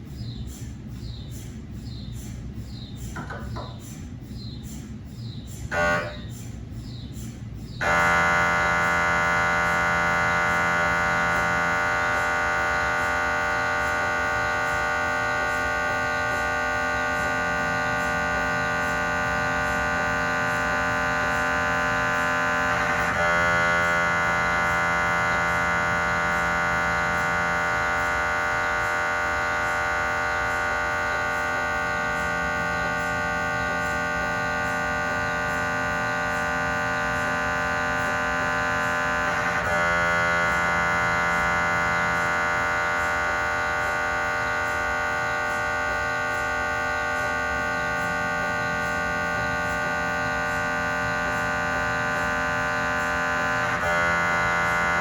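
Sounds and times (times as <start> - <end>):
mri scanner electronic buzz: 0.0 - 55.0
mri scanner rapid stutter: 0.0 - 55.0.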